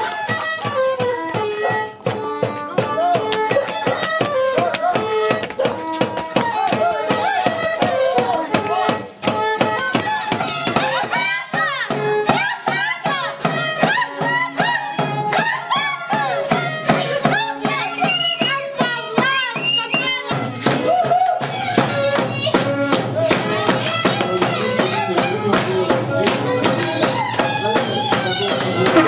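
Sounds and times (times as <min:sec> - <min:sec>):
wavering fiddle-like melody: 0:00.0 - 0:29.0
steady drum beat: 0:00.1 - 0:29.0.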